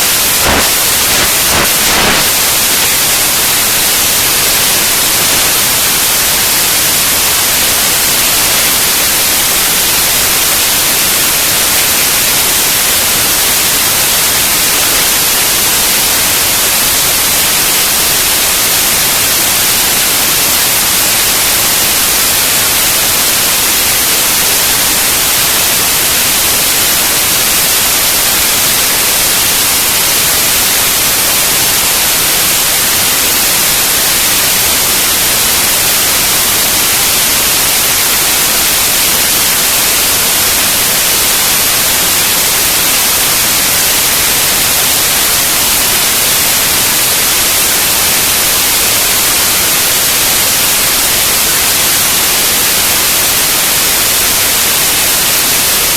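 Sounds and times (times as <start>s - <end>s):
loud static hiss: 0.0s - 55.9s.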